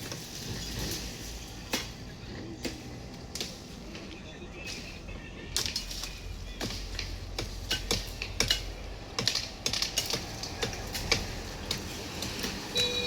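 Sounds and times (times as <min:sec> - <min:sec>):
branches cracking and breaking: 0:00.0 - 0:12.8.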